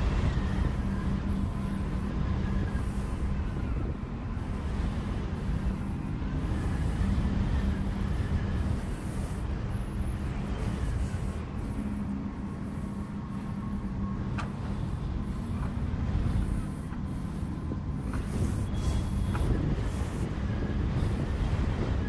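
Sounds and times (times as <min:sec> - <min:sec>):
wooden drone pipe buzzing: 0:00.0 - 0:22.0.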